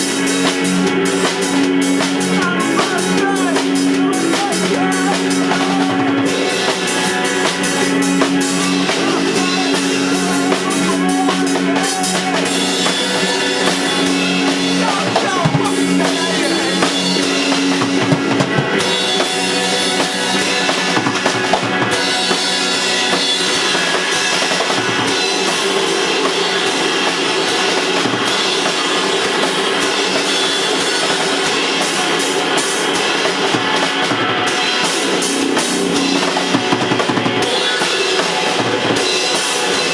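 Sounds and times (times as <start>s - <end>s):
drum kit beat: 0.0s - 39.9s
live rock band playing: 0.0s - 39.9s.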